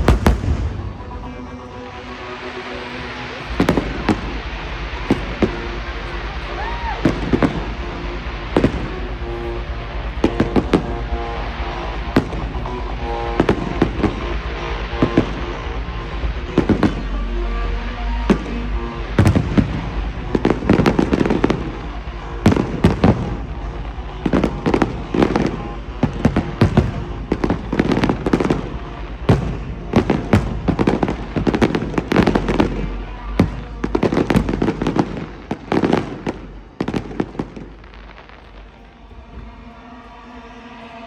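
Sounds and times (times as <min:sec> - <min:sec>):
fireworks exploding: 0:00.0 - 0:40.8
faint music: 0:00.0 - 0:41.0.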